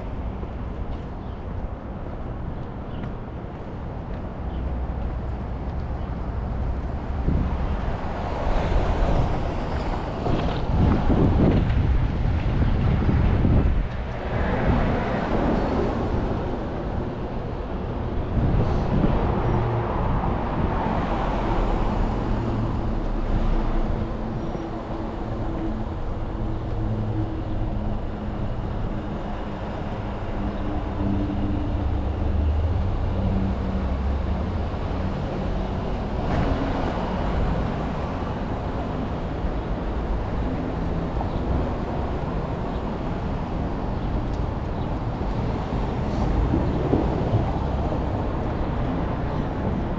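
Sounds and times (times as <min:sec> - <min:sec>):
vehicles passing: 0:00.0 - 0:49.9.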